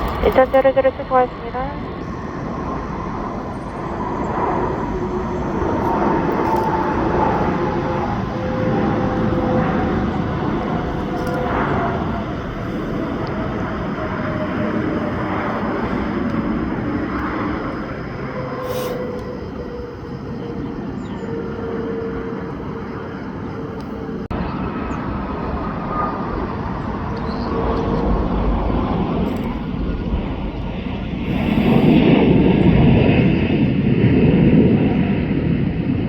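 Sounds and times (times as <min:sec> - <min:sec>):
jet airliner passing: 0:00.0 - 0:36.0.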